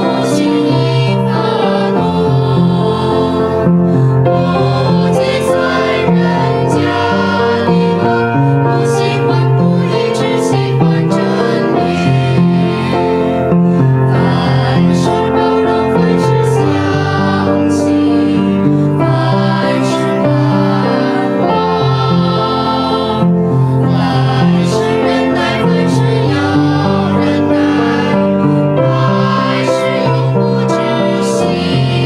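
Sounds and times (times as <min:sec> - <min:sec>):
choir singing a hymn: 0:00.0 - 0:32.0.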